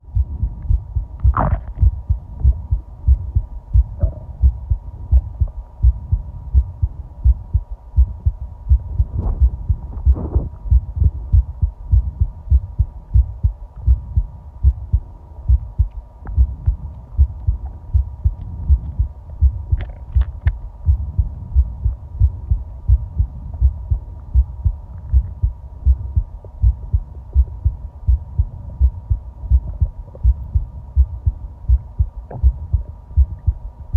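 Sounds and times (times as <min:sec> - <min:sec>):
heartbeat thumps: 0:00.0 - 0:33.7
faint steady hum: 0:00.0 - 0:33.9.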